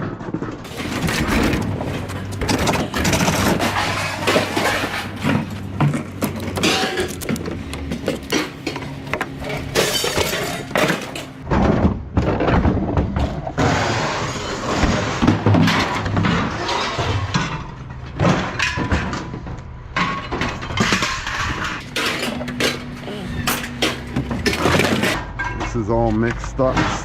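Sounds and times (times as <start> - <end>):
scrap metal crashing and clanking: 0.0 - 27.0.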